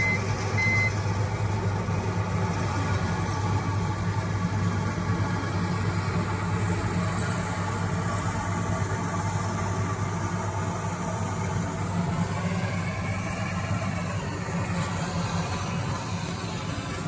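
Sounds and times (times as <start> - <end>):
harvester engine humming: 0.0 - 17.0.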